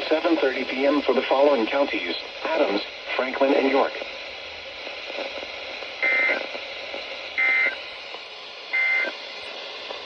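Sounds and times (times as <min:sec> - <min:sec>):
radio hiss: 0:00.0 - 0:10.0.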